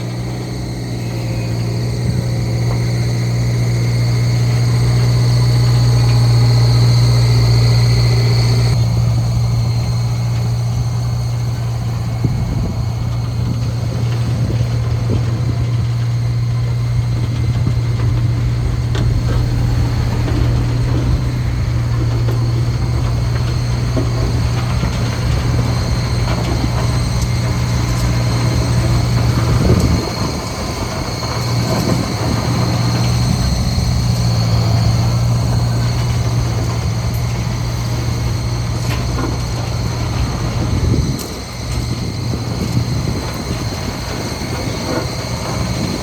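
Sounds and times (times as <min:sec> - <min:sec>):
diesel engine humming: 0:00.0 - 0:46.0.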